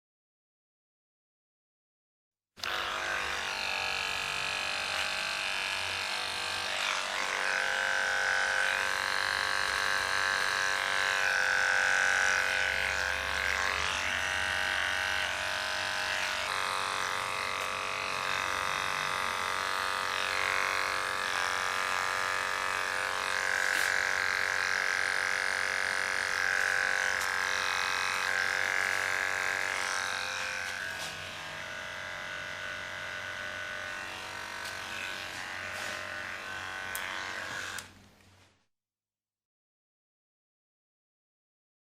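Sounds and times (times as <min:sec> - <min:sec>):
electric hair clipper buzzing: 0:02.6 - 0:38.0.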